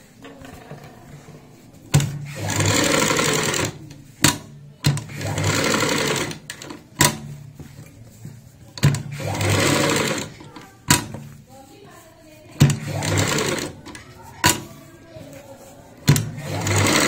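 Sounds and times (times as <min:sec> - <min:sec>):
sewing machine stitching fabric: 0:00.1 - 0:07.4, 0:08.8 - 0:11.5, 0:12.3 - 0:17.0.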